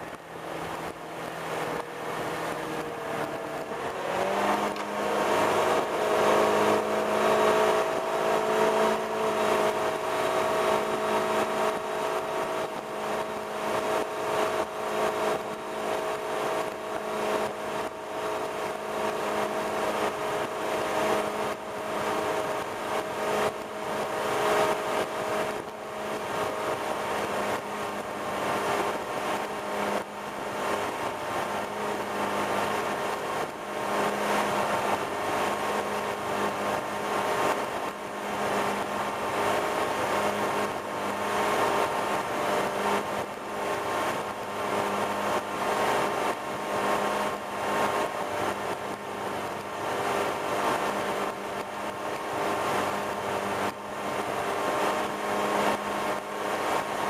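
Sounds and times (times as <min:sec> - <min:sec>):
boat engine running: 0:00.0 - 0:57.0
churning wake rushing: 0:00.0 - 0:57.0.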